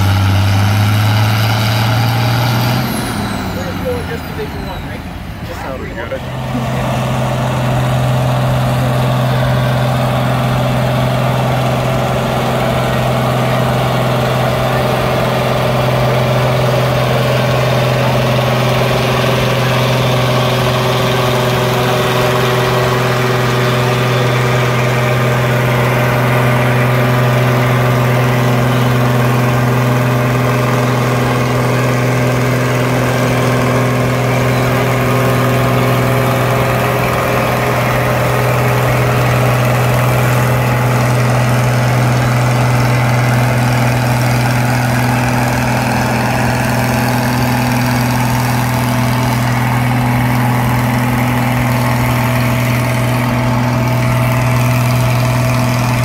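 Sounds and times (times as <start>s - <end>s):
tractor engine under heavy load: 0.0s - 56.0s.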